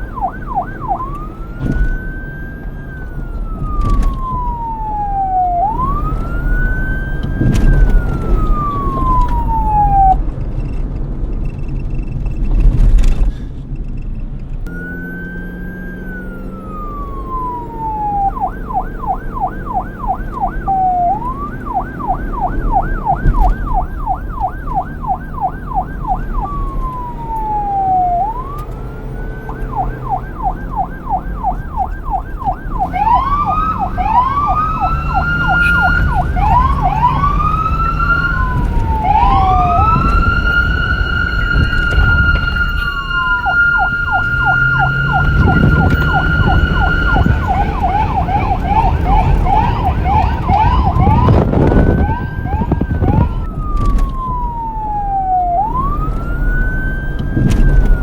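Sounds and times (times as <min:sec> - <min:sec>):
police siren wail and yelp: 0:00.0 - 0:10.3, 0:14.7 - 0:58.0
low traffic rumble: 0:00.0 - 0:58.0.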